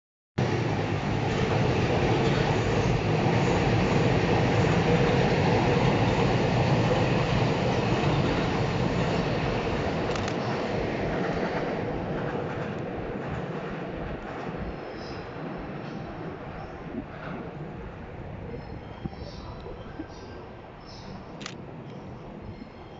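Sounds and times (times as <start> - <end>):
train wheels rolling on rail: 0.4 - 19.1.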